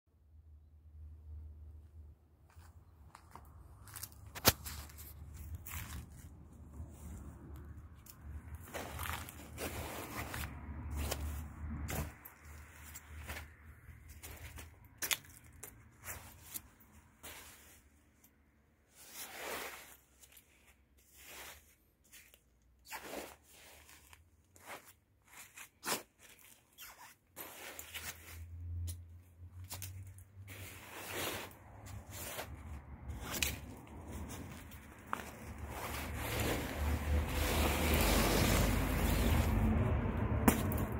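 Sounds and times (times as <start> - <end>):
stick scuffing on gravelly dirt: 2.5 - 17.8, 19.0 - 26.7, 27.4 - 28.4, 29.6 - 40.9
nylon jacket rustling: 2.5 - 39.9.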